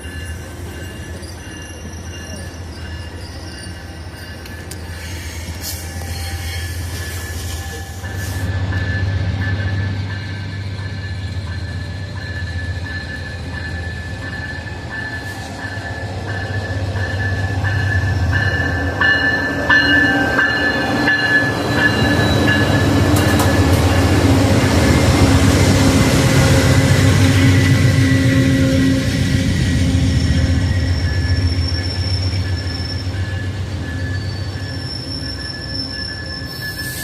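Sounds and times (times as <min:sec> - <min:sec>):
low train rumble: 0:00.0 - 0:37.0
train wheels squealing: 0:00.0 - 0:37.0.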